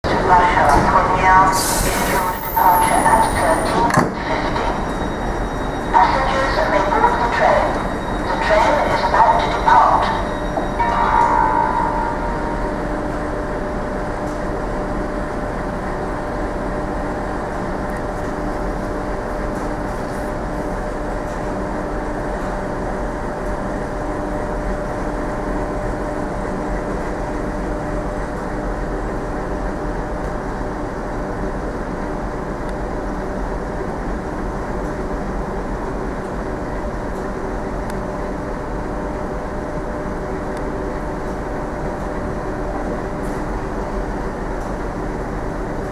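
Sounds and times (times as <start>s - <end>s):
passenger train hum and rumble: 0.0s - 45.9s.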